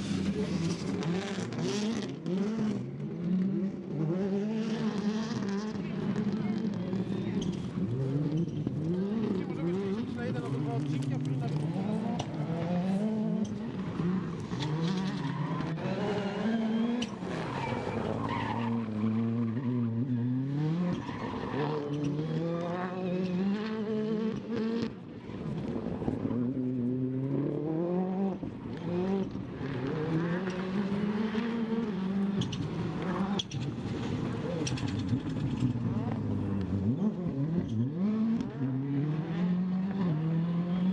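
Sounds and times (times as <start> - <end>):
rally car engine driven hard: 0.0 - 40.9.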